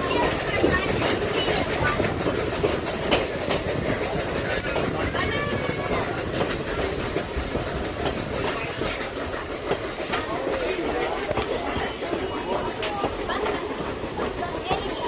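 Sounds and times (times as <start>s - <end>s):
train running gear rumble: 0.0s - 15.0s
wheels clicking over rail joints: 0.0s - 15.0s.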